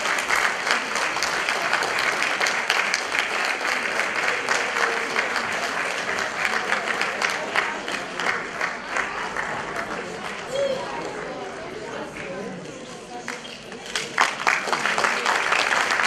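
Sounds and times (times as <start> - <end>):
audience applauding: 0.0 - 11.3, 13.2 - 16.0.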